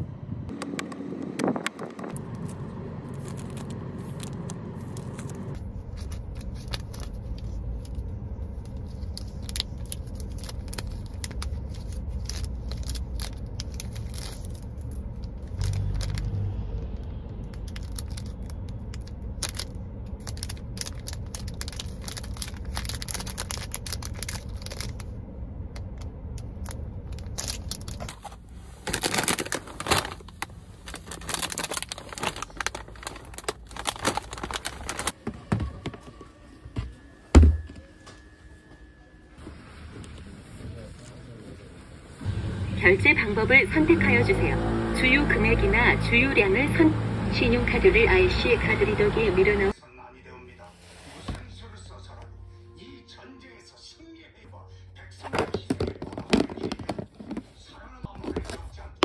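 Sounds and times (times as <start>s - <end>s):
car engine and road noise: 0.0s - 49.8s, 54.7s - 59.0s.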